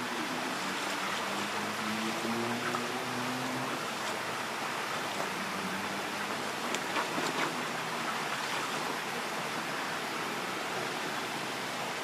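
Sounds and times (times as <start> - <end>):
creek water running over rocks: 0.0 - 12.0.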